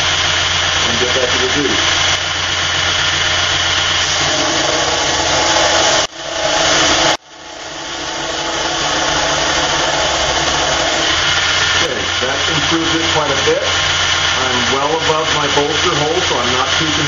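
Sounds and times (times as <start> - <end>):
belt grinder grinding steel: 0.0 - 17.0.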